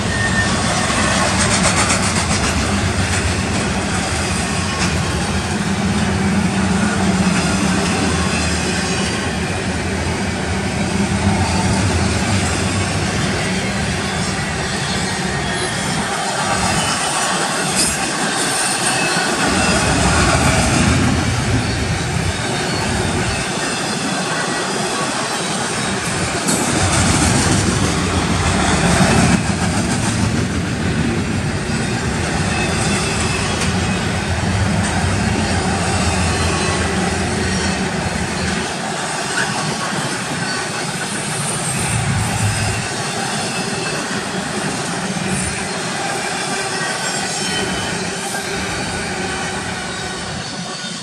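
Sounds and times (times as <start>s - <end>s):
steel train wheels on rails: 0.0s - 51.0s.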